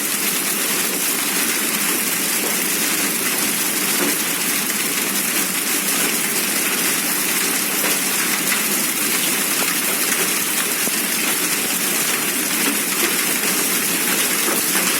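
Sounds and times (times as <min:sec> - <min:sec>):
hail and heavy rain falling: 0:00.0 - 0:14.9.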